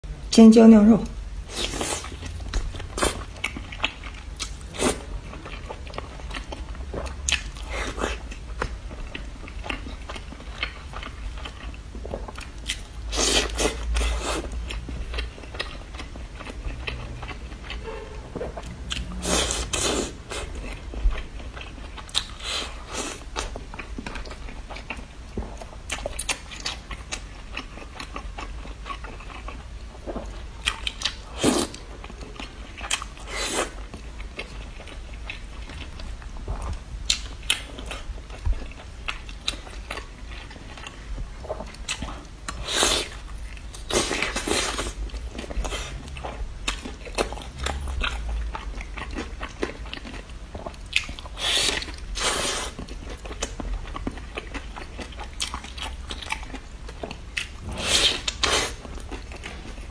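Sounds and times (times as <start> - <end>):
person chewing food: 1.4 - 59.9.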